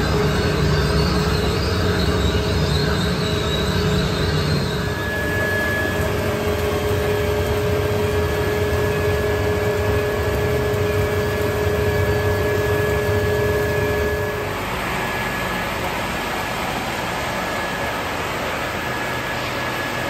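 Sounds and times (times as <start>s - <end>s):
plastic film squeezing dryer humming: 0.0s - 20.0s.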